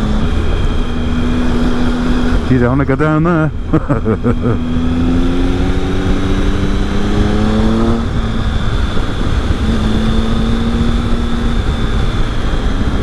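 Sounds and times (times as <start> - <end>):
motorcycle engine revving: 0.0 - 13.0
wind rush on microphone: 0.0 - 13.0.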